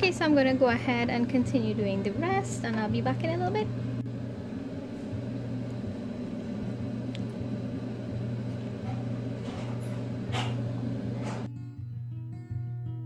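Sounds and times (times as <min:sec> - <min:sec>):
low kitchen hum: 0:00.0 - 0:11.5.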